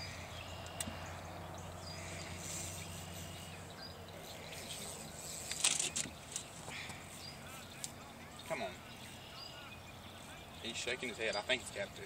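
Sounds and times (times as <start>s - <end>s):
faint bird chirps: 0.0s - 11.8s
steady low background hum: 0.0s - 12.0s.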